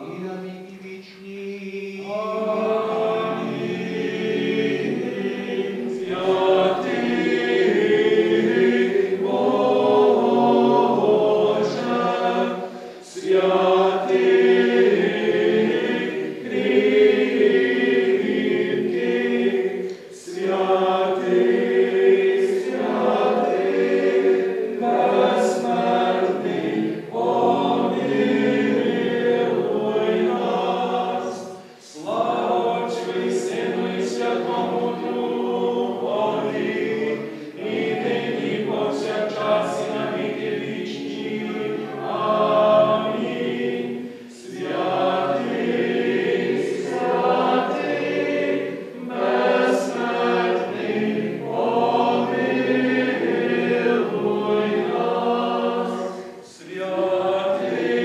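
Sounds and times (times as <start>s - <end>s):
choir singing a chant: 0.0s - 58.0s.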